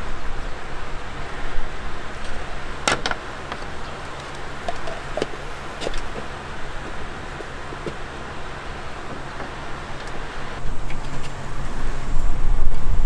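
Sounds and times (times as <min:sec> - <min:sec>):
low rumbling outdoor noise: 0:00.0 - 0:13.0.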